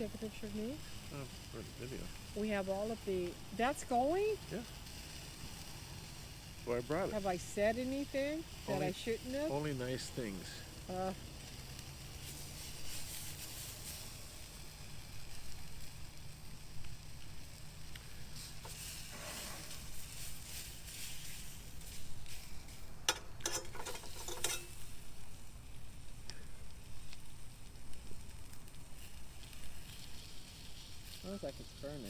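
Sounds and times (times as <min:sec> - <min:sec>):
food sizzling in a pan: 0:00.0 - 0:32.0
sharp crackles and pops: 0:00.0 - 0:32.0.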